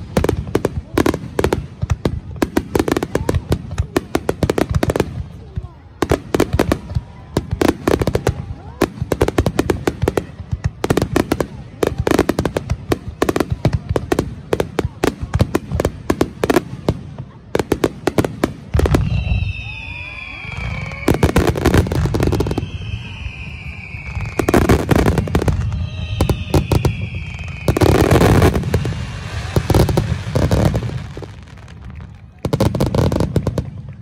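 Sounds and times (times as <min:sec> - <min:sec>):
fireworks booming bursts: 0:00.0 - 0:34.0
fireworks crackling: 0:00.0 - 0:34.0.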